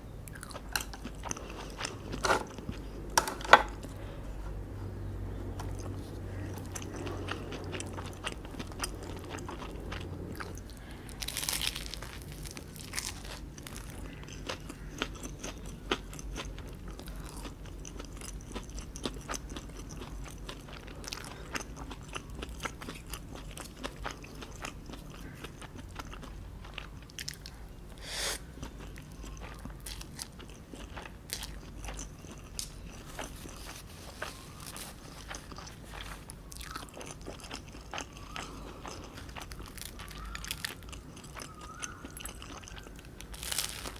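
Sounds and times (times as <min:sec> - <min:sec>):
chewing and crunching: 0:00.3 - 0:43.9.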